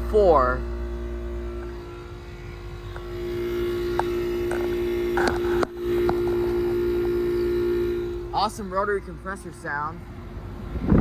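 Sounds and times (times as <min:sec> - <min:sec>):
air conditioner compressor hum: 0:00.0 - 0:11.0.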